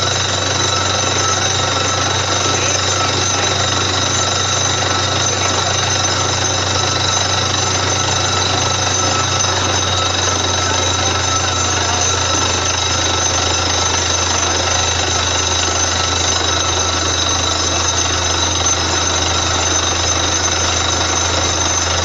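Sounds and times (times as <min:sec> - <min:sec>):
drilling rig engine drone: 0:00.0 - 0:22.0
rapid drill hammering: 0:00.0 - 0:22.0.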